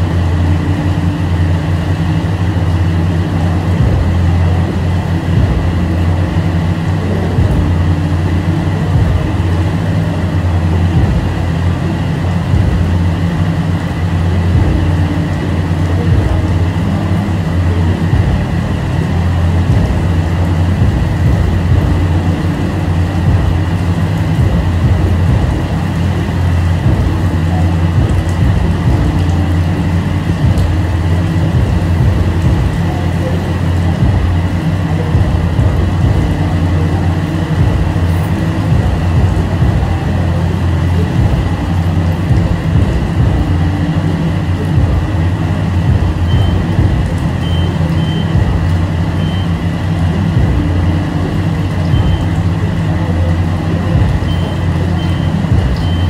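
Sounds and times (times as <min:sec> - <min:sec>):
constant low hum: 0:00.0 - 0:56.0
water spraying and pattering: 0:00.0 - 0:56.0.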